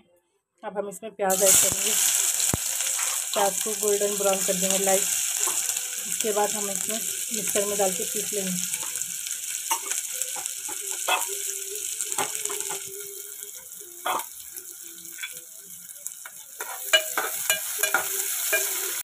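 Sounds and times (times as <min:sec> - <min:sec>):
onions sizzling in oil: 0:01.3 - 0:19.0.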